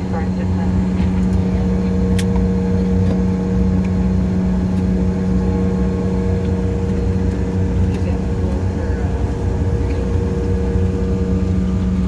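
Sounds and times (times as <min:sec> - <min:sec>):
jet engines idling in cabin: 0:00.0 - 0:12.0.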